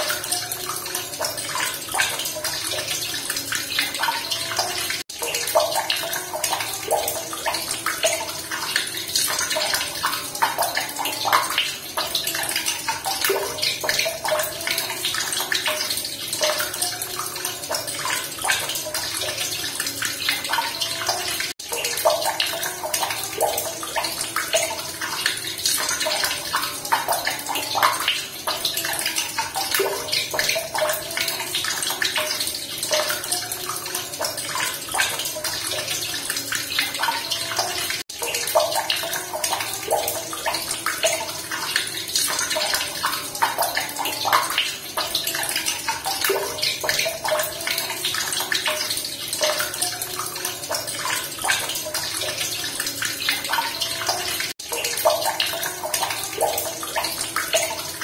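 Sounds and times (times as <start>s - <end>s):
running water splashing: 0.0s - 58.0s.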